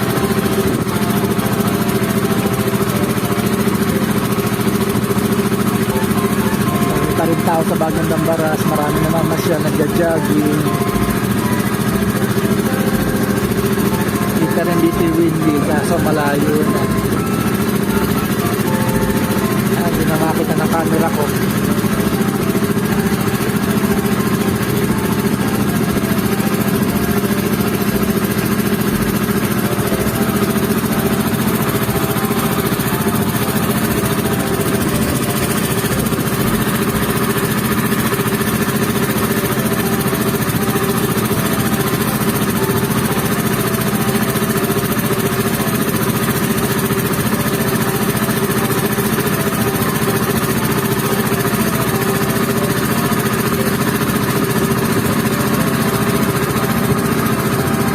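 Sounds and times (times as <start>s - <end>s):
motorboat engine running: 0.0s - 57.9s.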